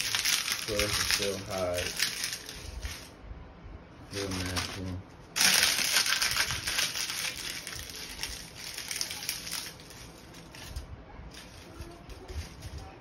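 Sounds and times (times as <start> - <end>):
dry leaves crackling in hands: 0.0 - 3.1, 4.1 - 12.8.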